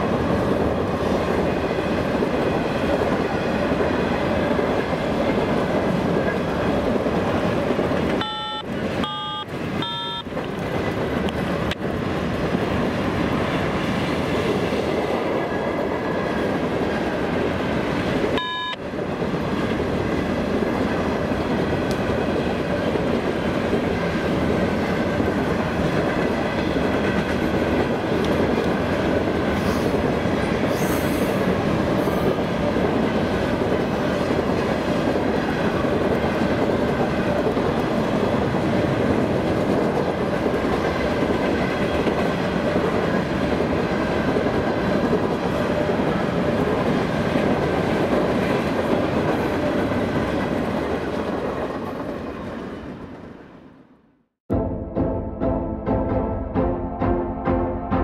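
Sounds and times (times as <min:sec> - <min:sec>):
freight train wheels rumbling: 0:00.0 - 0:53.8.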